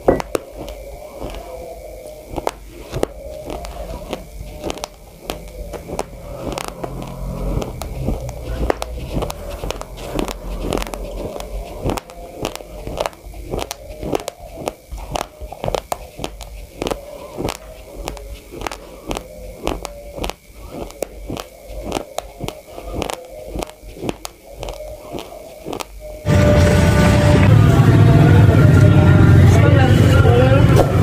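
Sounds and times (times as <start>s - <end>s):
rice grains crunched while chewing: 0.0s - 26.0s.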